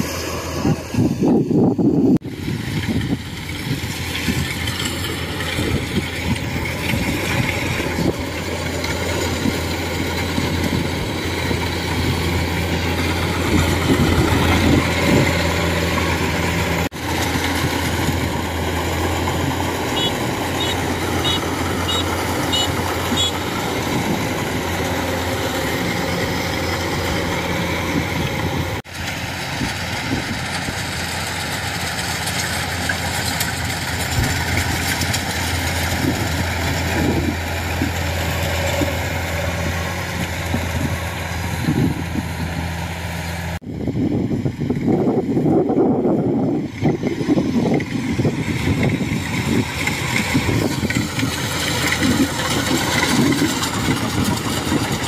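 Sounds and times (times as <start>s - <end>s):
combine harvester diesel drone: 0.0s - 55.0s.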